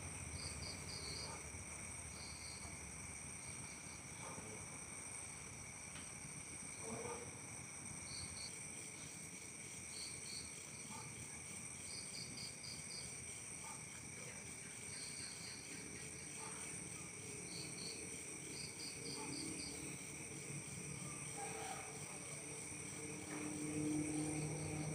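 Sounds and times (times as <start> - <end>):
cricket chirping: 0.0 - 24.9
crickets trilling: 0.0 - 24.9.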